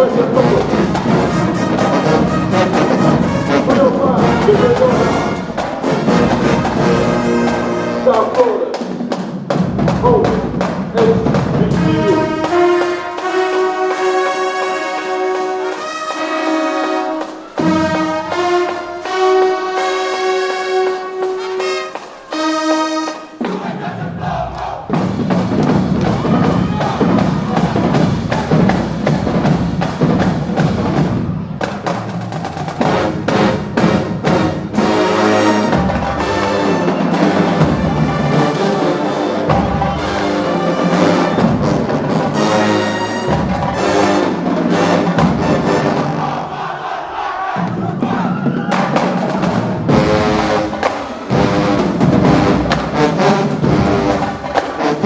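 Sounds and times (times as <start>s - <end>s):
drumline beat: 0.0s - 55.0s
marching band brass: 0.0s - 55.0s.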